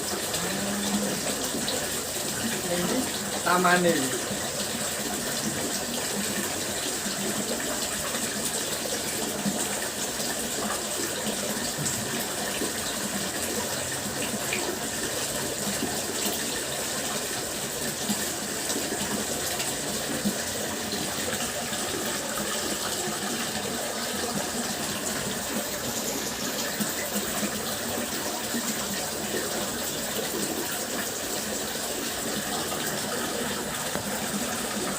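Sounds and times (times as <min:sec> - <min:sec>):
water fountain splashing: 0:00.0 - 0:34.9.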